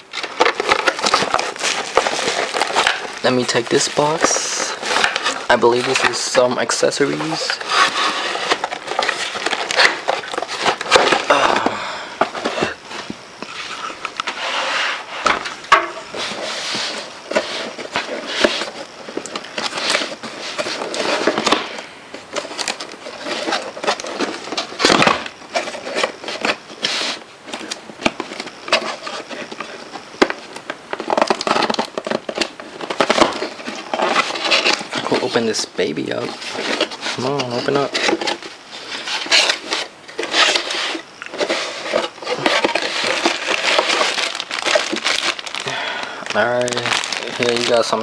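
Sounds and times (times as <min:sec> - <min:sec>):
cardboard box scraping and rustling: 0:00.1 - 0:11.4, 0:12.2 - 0:45.6, 0:46.3 - 0:48.0.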